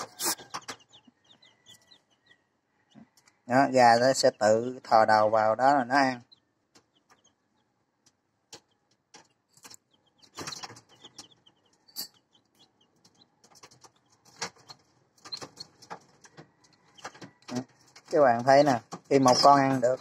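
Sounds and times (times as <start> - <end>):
chicks cheeping: 0.0 - 20.0.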